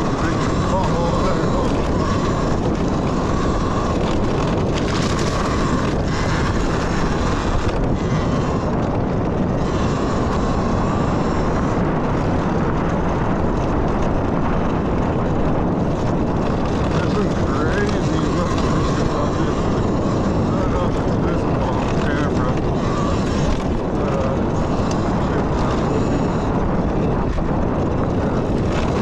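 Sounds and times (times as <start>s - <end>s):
electric motor whine: 0.0s - 29.0s
wind rush and rolling noise: 0.0s - 29.0s.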